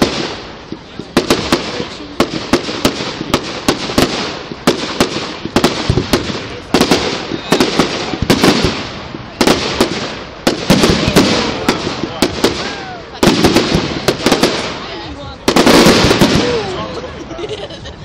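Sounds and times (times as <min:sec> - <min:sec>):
fireworks bangs: 0:00.0 - 0:18.0
fireworks crackling: 0:00.0 - 0:18.0.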